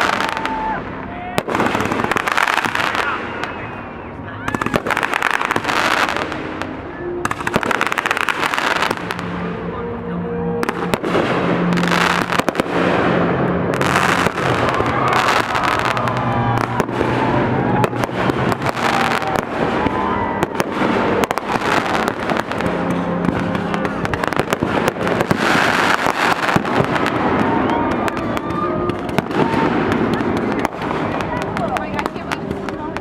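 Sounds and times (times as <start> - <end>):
fireworks bangs and crackling: 0.0 - 9.8, 10.5 - 33.0.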